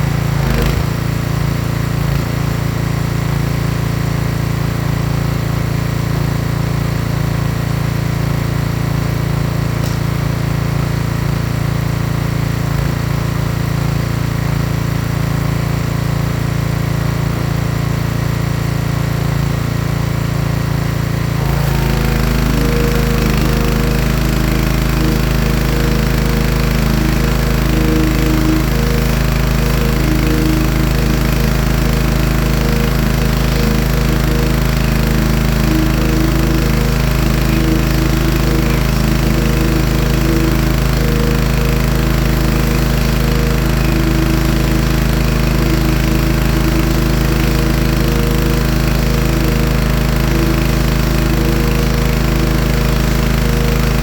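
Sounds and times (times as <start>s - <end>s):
pressure washer engine running: 0.0s - 54.0s.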